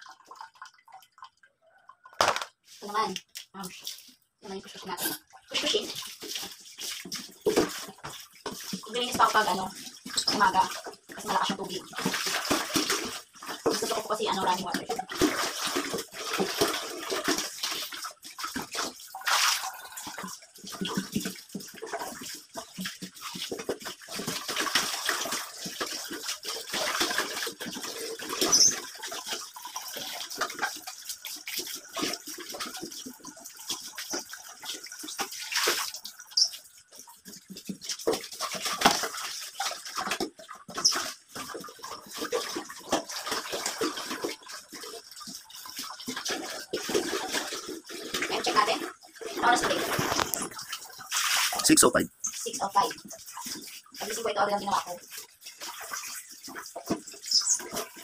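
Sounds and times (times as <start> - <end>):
running water splashing: 2.0 - 58.0.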